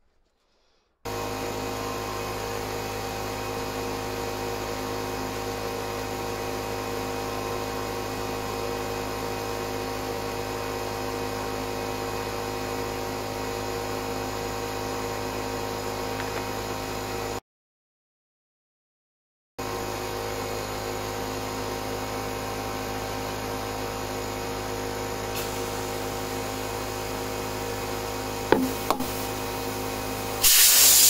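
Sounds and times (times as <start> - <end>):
air compressor running: 1.1 - 17.4, 19.6 - 31.0.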